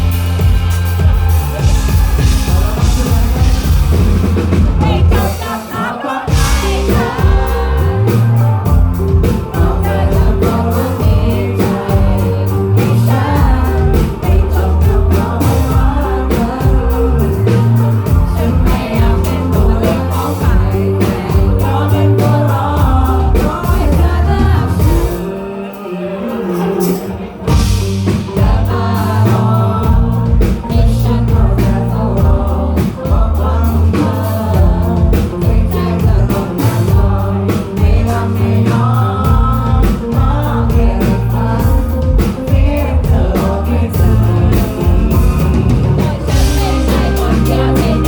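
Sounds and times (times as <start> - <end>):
lead vocals: 0.0 - 48.0
pop-rock band playing: 0.0 - 48.0.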